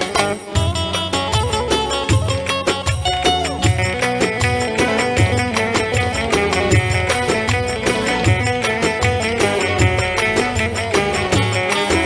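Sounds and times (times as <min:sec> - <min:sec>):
plucked string folk dance music: 0:00.0 - 0:12.0.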